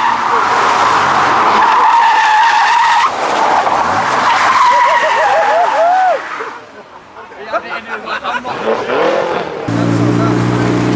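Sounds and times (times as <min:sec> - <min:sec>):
car tyres screeching: 0:00.0 - 0:06.6, 0:08.5 - 0:10.9.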